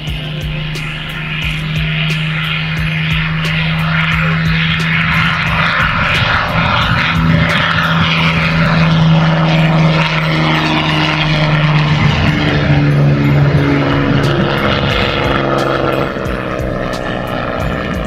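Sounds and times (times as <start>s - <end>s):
propeller plane engine running: 0.0s - 18.0s.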